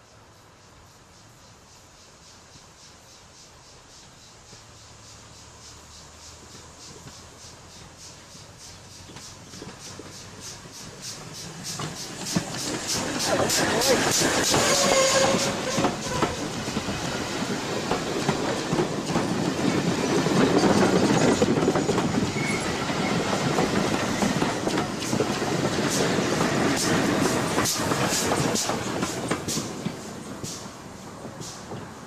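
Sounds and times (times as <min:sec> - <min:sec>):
train wheels clattering over rails: 0:06.1 - 0:32.0
sharp clicks of locomotive: 0:06.3 - 0:32.0.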